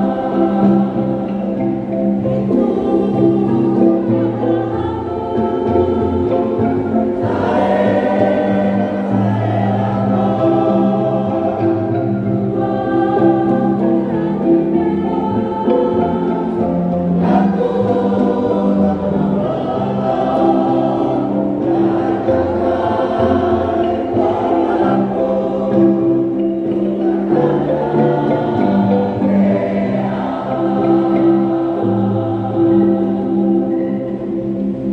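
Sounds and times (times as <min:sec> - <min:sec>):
choir singing in harmony: 0:00.0 - 0:34.9
wooden xylophones playing: 0:00.0 - 0:34.9.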